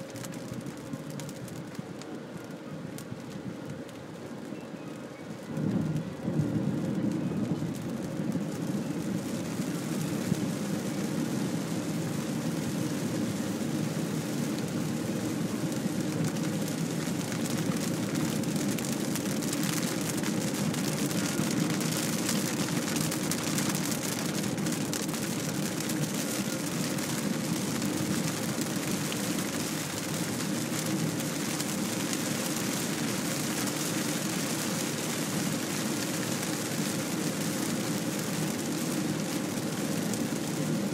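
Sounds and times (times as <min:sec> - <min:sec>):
heavy rain on car windscreen: 0:00.0 - 0:40.9
tyres on wet road: 0:05.6 - 0:40.8.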